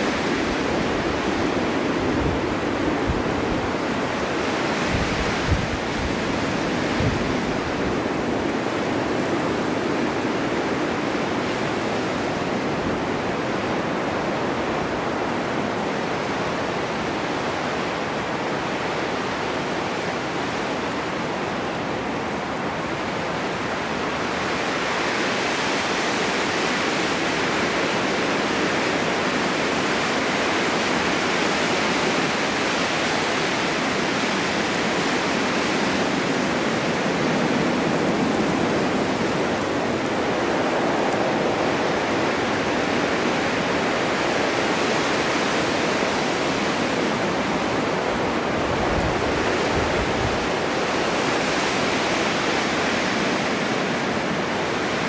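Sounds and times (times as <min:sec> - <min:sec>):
snowstorm wind gusting: 0:00.0 - 0:55.0.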